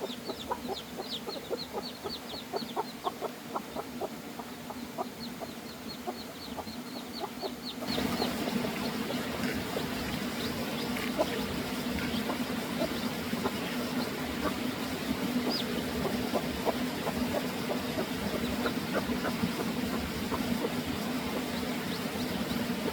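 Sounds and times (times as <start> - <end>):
chickens clucking and peeping: 0.0 - 22.9.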